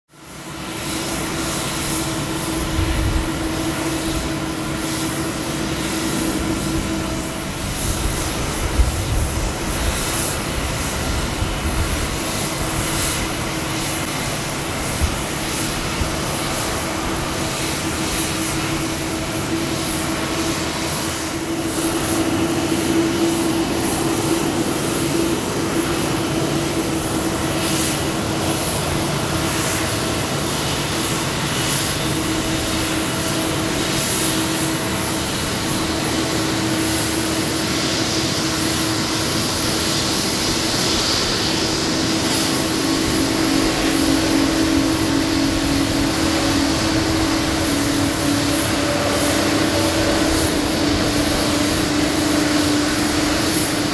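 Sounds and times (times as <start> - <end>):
jet engines idling with whine: 0.1 - 53.9
jet taxiing past: 0.2 - 53.9.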